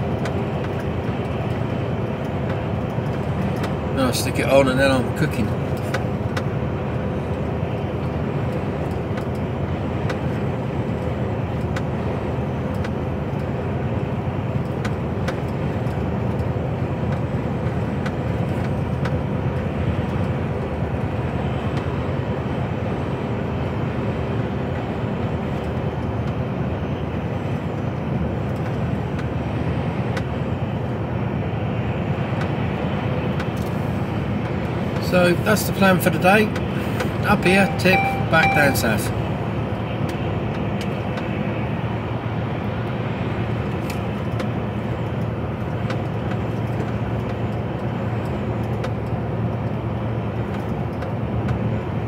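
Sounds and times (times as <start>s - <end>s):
lorry engine and road rumble: 0.0s - 52.0s.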